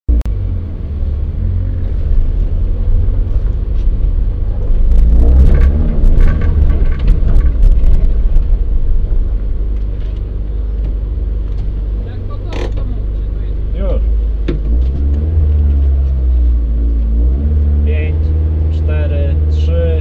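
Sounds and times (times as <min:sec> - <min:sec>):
car engine rumbling: 0:00.1 - 0:20.0.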